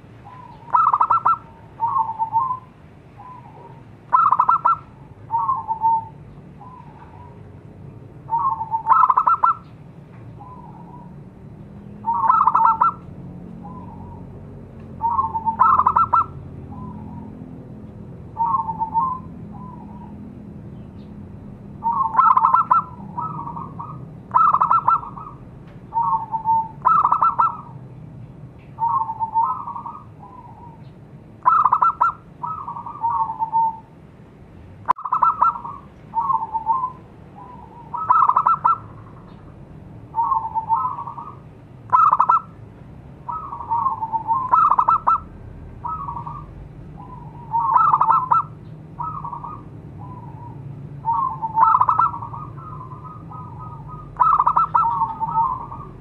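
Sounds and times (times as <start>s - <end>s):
dove cooing: 0.0s - 7.5s, 8.3s - 9.7s, 12.0s - 14.3s, 15.0s - 17.4s, 18.4s - 20.2s, 21.8s - 27.8s, 28.8s - 33.9s, 34.9s - 39.4s, 40.1s - 42.6s, 43.2s - 56.0s.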